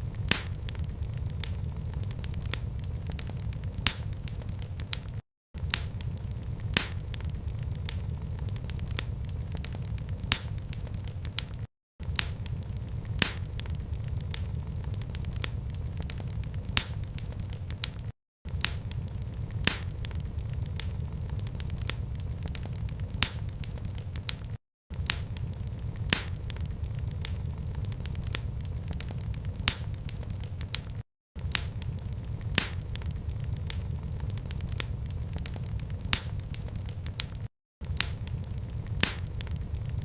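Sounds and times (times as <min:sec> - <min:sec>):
fire flames rumbling: 0:00.0 - 0:40.0
fire pops and snaps: 0:00.0 - 0:40.0.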